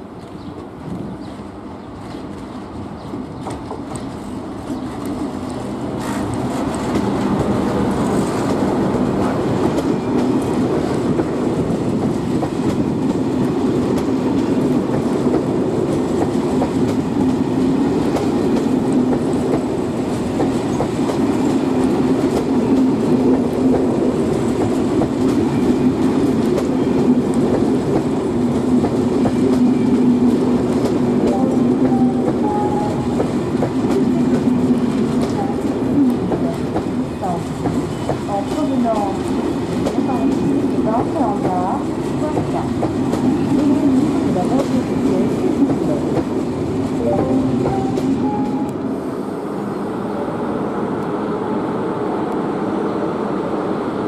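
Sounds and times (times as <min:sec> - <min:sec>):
train wheels on rails: 0:00.0 - 0:49.7
electric locomotive and train passing: 0:00.0 - 0:54.0.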